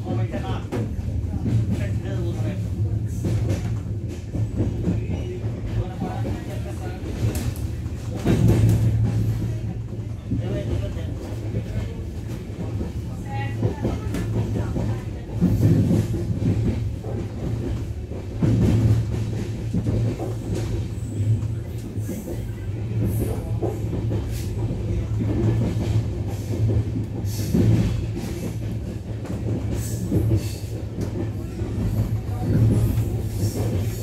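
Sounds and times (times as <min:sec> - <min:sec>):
train rumble from inside coach: 0:00.0 - 0:34.0.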